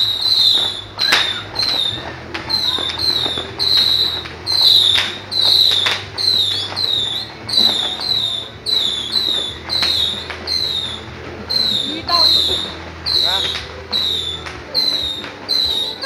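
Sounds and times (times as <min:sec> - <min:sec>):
fireworks bangs and crackles: 0:00.0 - 0:16.0
high falling chirp: 0:00.0 - 0:16.0.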